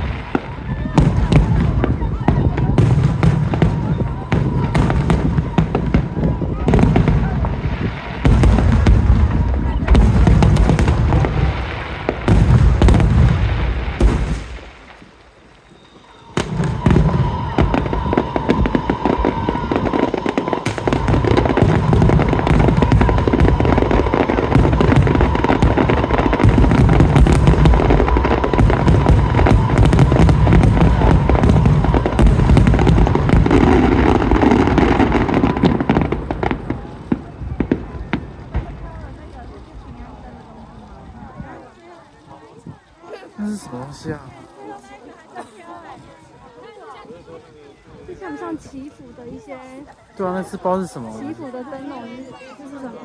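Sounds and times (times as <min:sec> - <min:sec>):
fireworks deep booms: 0:00.0 - 0:42.9
fireworks sharp cracks: 0:00.0 - 0:45.1.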